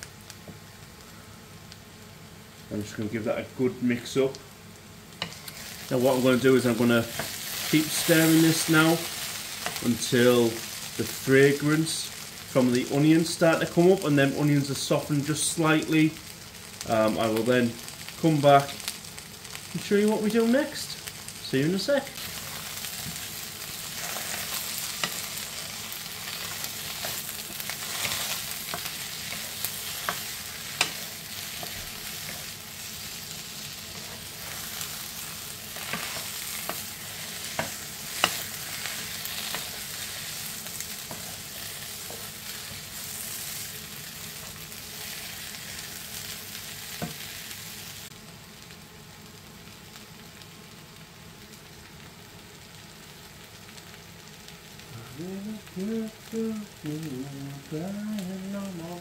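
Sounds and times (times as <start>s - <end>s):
potatoes and onions sizzling in pan: 0.0s - 59.0s.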